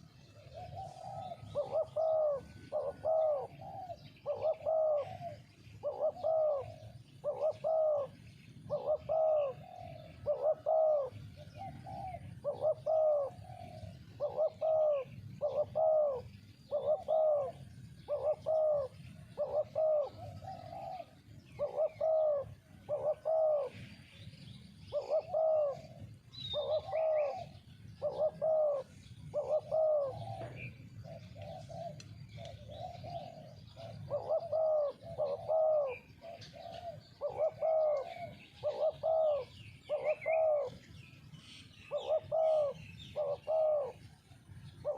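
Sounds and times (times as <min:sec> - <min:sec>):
doves cooing: 0:00.0 - 0:44.9.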